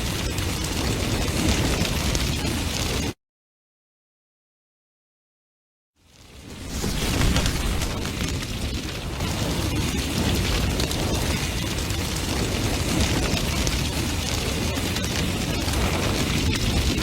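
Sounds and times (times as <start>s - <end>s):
fire crackling and popping: 0.0s - 3.2s, 6.0s - 17.0s
roar of flames: 0.0s - 3.2s, 6.0s - 17.0s.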